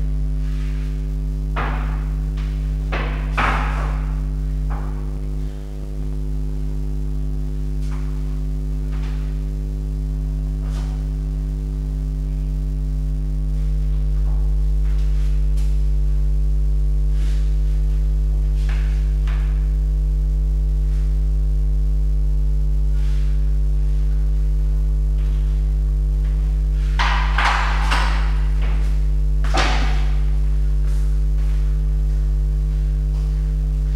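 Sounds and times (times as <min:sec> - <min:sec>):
electrical mains hum: 0:00.0 - 0:33.9.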